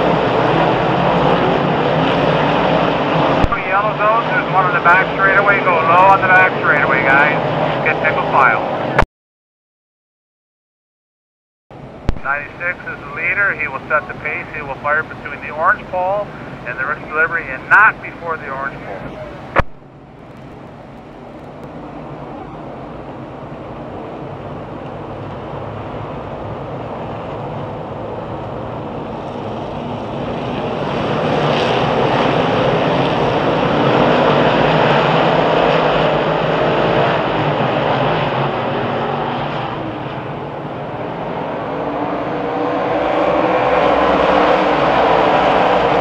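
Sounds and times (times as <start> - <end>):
race car engines on track: 0.0 - 9.0, 11.8 - 46.0.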